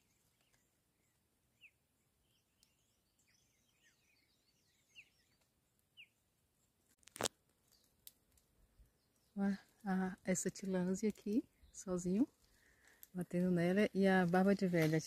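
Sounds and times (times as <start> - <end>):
faint birds chirping: 0.0 - 14.6.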